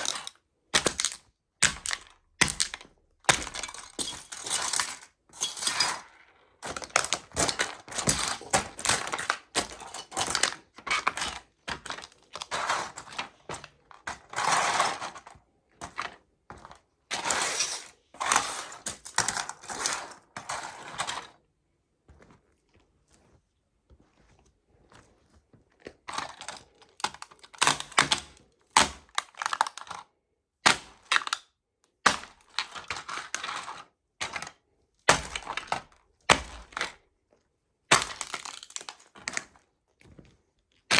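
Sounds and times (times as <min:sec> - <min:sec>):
toy trucks crunching under a shoe: 0:00.0 - 0:21.5, 0:24.1 - 0:37.2, 0:37.9 - 0:40.9.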